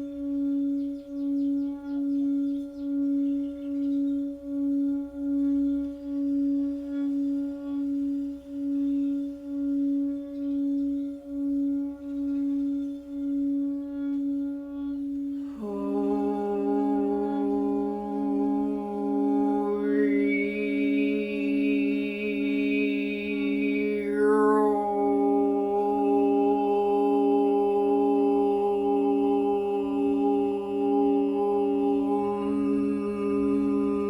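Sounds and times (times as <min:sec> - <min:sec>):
low sustained tone with overtones: 0:00.0 - 0:34.0
singing bowl ringing: 0:00.0 - 0:34.0.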